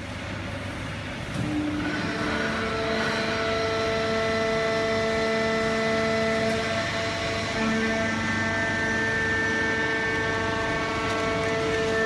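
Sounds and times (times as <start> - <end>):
baling machine humming and whining: 0.0 - 12.0.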